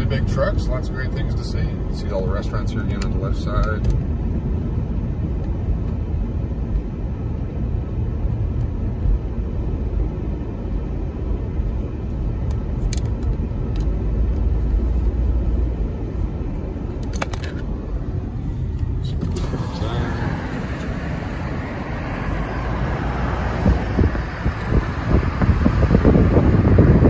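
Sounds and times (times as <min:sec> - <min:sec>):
car cabin road rumble: 0:00.0 - 0:27.0.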